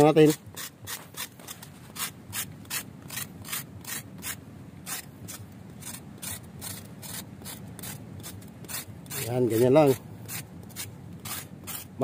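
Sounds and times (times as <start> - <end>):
knife scraping bark: 0.0 - 12.0.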